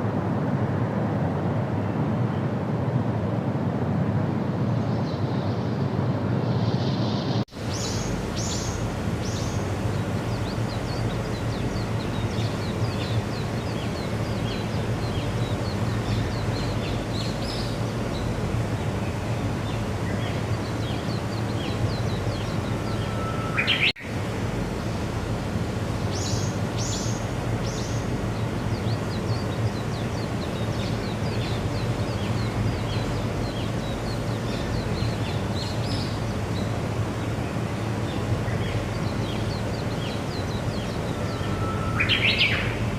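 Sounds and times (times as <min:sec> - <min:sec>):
low background rumble: 0:00.0 - 0:42.9
small birds chirping: 0:06.6 - 0:24.0, 0:24.6 - 0:42.9.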